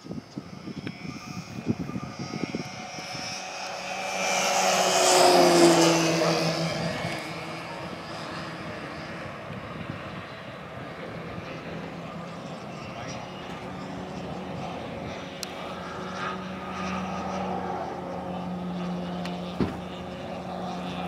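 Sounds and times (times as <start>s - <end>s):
model plane motor and propeller whine: 0.0s - 21.0s.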